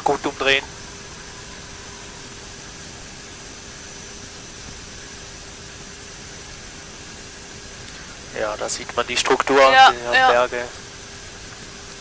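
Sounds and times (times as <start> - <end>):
airflow and engine hiss: 0.0 - 12.0
faint constant hum: 0.0 - 12.0
thin high whine: 0.0 - 12.0.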